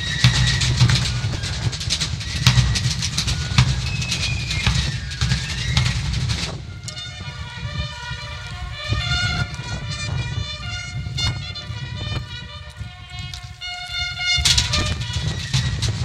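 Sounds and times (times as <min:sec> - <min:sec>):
bass and snare drums: 0:00.0 - 0:16.0
wind buffeting microphone: 0:00.0 - 0:16.0.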